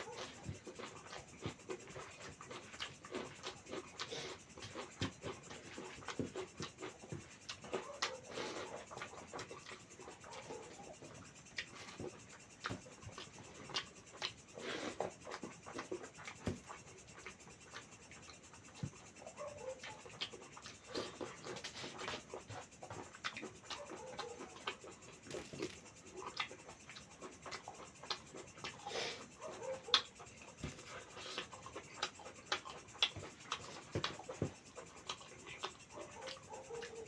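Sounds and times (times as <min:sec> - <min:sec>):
wet chewing sounds: 0:00.0 - 0:37.0.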